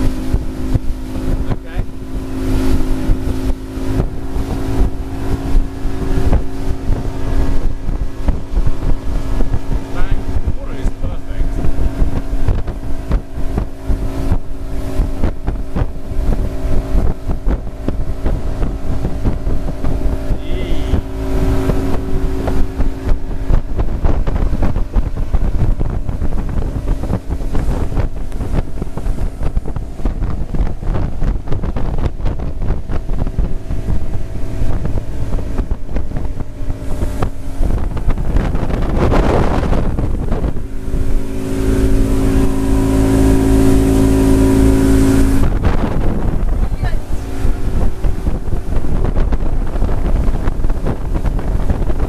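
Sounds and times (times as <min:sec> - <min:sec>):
outboard motor running: 0:00.0 - 0:52.0
wind buffeting microphone: 0:00.0 - 0:52.0.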